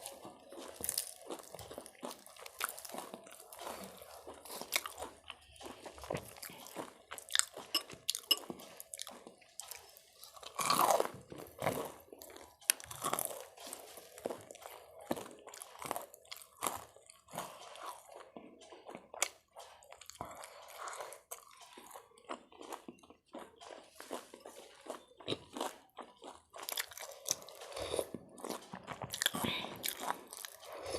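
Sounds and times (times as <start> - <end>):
person chewing crunchy food: 0.0 - 30.9.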